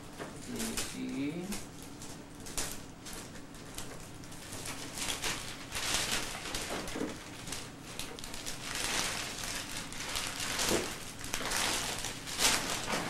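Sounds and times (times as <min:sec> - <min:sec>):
wrapping paper rustling and crinkling: 0:00.0 - 0:13.0.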